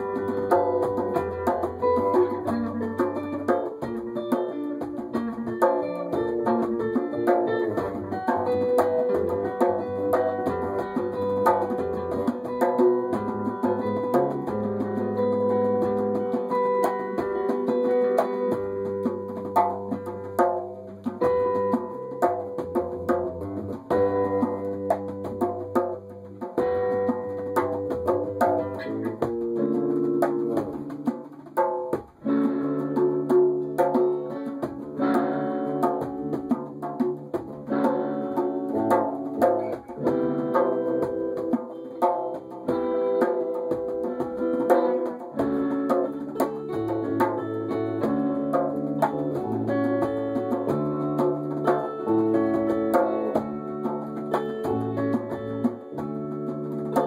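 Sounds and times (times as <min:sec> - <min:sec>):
guitar playing: 0:00.0 - 0:57.0
sharp percussive hits: 0:00.0 - 0:57.0.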